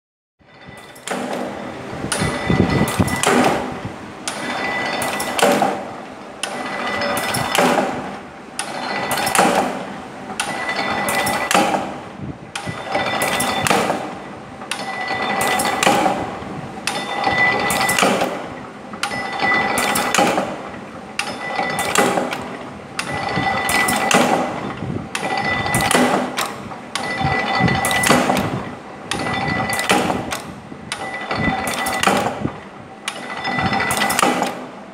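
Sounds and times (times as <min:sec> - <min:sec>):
steady machine tone: 0:00.4 - 0:34.2
air cylinder working: 0:00.4 - 0:34.9
power press knocking: 0:00.8 - 0:34.7.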